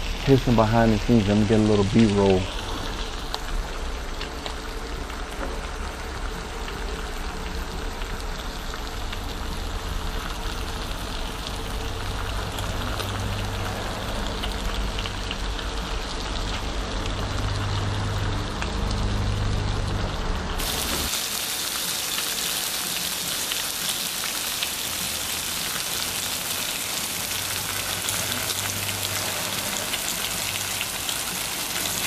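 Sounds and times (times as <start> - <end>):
bacon sizzling on griddle: 0.0 - 32.0.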